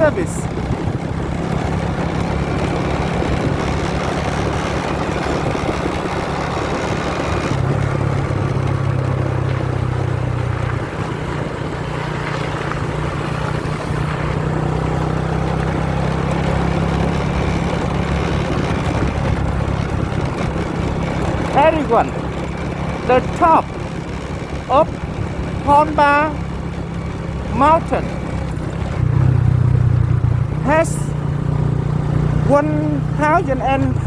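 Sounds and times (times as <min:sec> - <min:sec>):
wind rushing over microphone: 0:00.0 - 0:32.5
motorbike engine cruising: 0:00.0 - 0:34.0.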